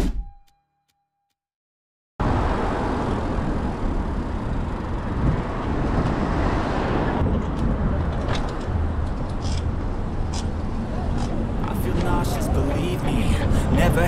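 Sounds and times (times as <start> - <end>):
cars passing on road: 2.2 - 14.0.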